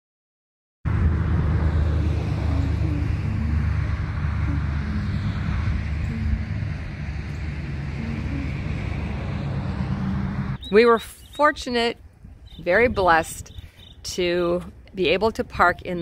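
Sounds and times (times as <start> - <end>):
low outdoor rumble: 0.9 - 16.0.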